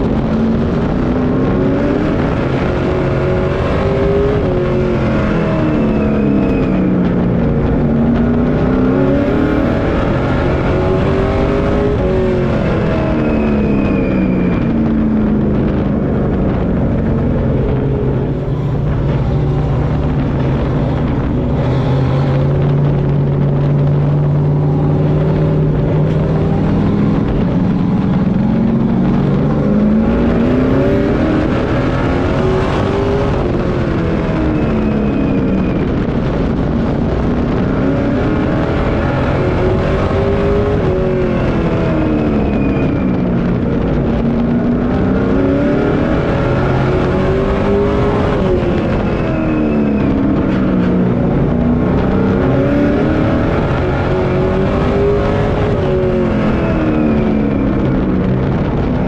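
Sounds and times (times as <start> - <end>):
constant rush of noise: 0.0 - 59.0
race truck engine revving: 0.0 - 59.0.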